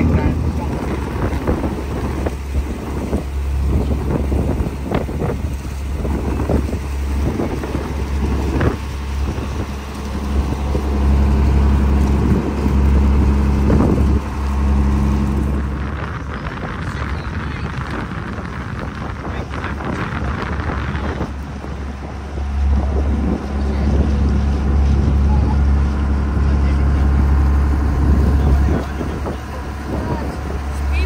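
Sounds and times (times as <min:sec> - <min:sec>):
small boat engine humming: 0:00.0 - 0:31.0
wind gusts on microphone: 0:00.0 - 0:31.0.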